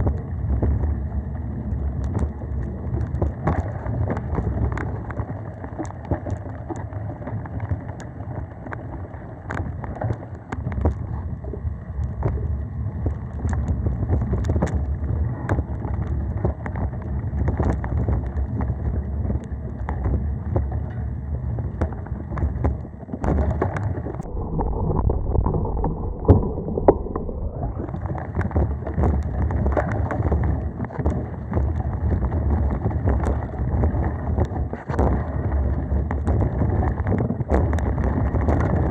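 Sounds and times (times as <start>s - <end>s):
wind and tyre rumble: 0.0s - 38.9s.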